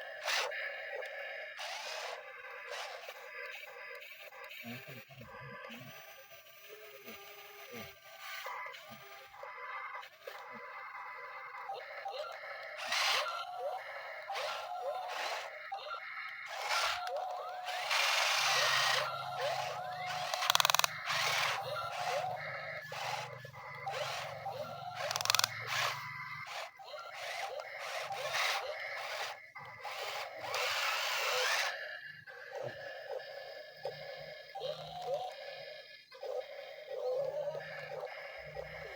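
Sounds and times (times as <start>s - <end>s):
toy electric motors whirring: 0.0s - 38.9s.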